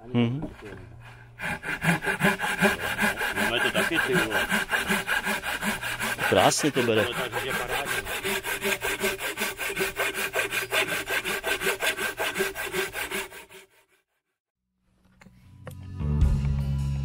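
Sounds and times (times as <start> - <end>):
hand saw cutting log: 0.4 - 14.0.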